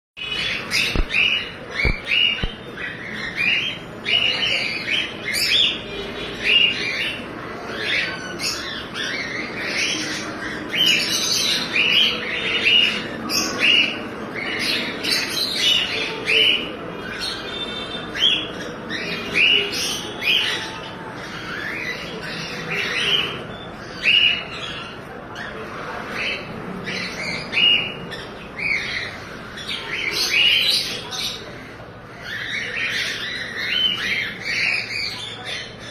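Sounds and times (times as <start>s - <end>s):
cockatiels and budgerigars squawking: 0.2s - 35.9s.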